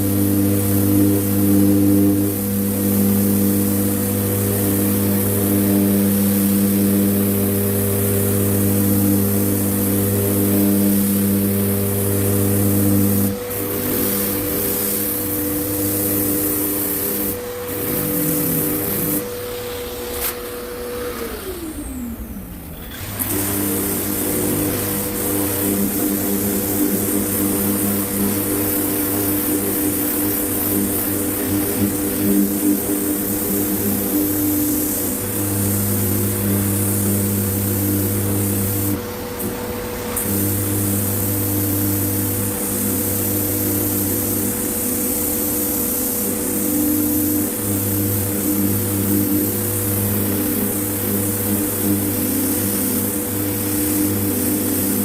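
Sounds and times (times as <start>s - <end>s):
small motor tool running: 0.0s - 55.0s.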